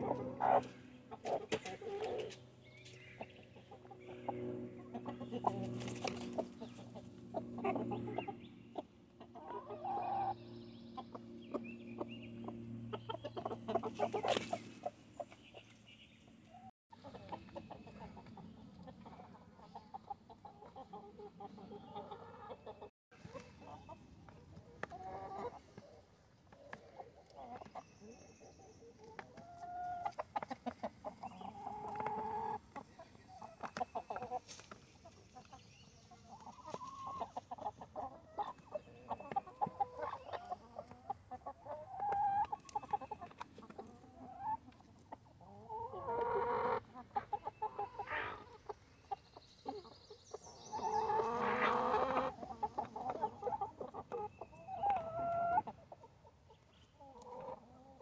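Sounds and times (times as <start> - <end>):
hens clucking: 0.0 - 15.8, 16.4 - 58.0
roosters calling: 0.0 - 58.0.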